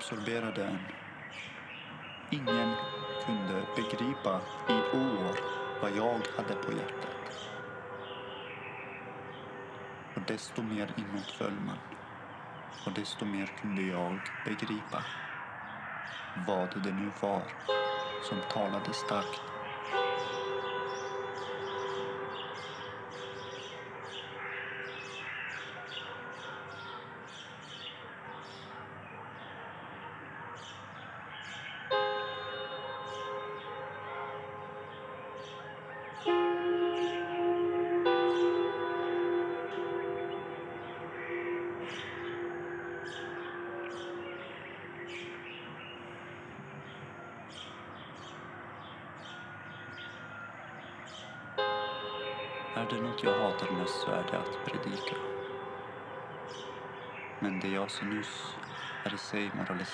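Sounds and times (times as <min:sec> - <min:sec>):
small birds chirping: 0:00.0 - 0:59.9
faint steady drone: 0:02.3 - 0:12.6, 0:13.2 - 0:27.5, 0:31.9 - 0:47.4, 0:51.6 - 0:59.9.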